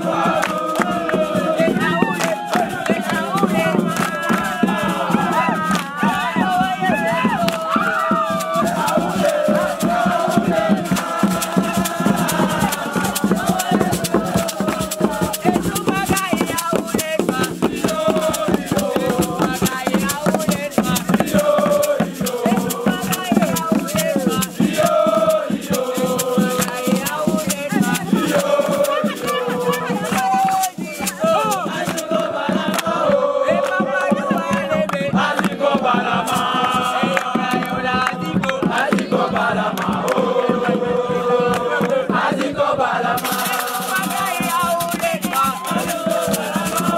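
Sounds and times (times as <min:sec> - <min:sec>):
group singing a chant: 0:00.0 - 0:46.9
shaker rattling a fast beat: 0:00.0 - 0:46.9.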